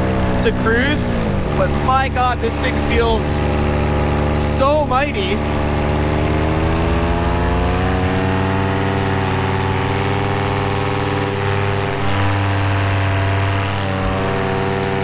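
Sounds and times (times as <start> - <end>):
paramotor engine running: 0.0 - 15.0.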